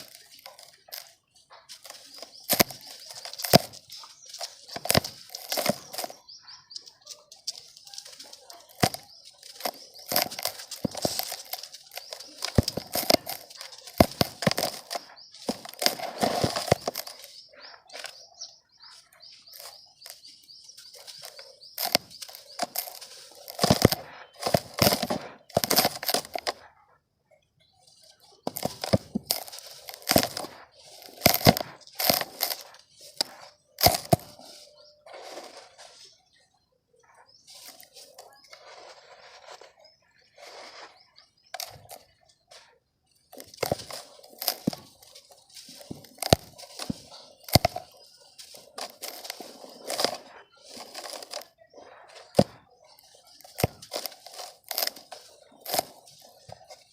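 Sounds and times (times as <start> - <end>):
dry mud crunching by hand: 0.0 - 26.8, 27.8 - 36.1, 37.4 - 56.9.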